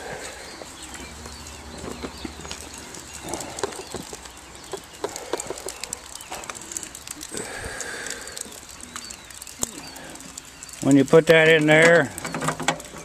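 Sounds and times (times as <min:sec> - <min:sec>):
footsteps on wet gravel: 0:00.0 - 0:13.0.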